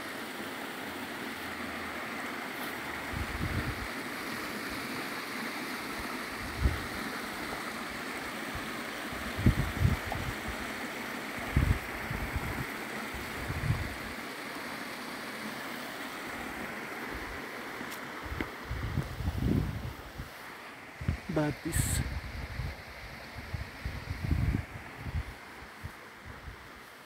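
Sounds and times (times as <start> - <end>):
stream running over rocks: 0.0 - 27.0.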